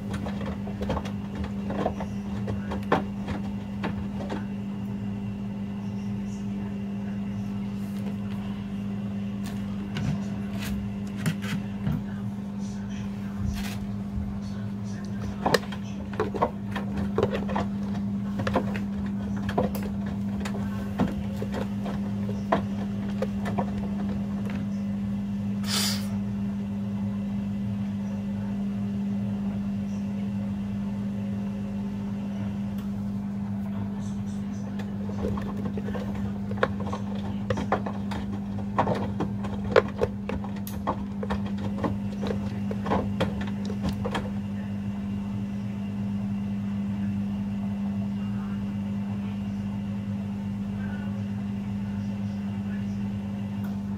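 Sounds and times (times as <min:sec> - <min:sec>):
washing machine humming: 0:00.0 - 0:53.9.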